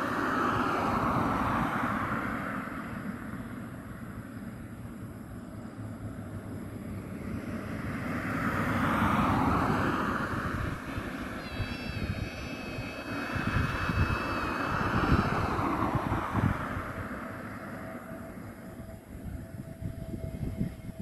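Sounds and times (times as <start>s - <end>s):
high-pitched whine: 0.0s - 21.0s
jet airliner engine noise: 0.0s - 21.0s
low rumble: 2.7s - 21.0s.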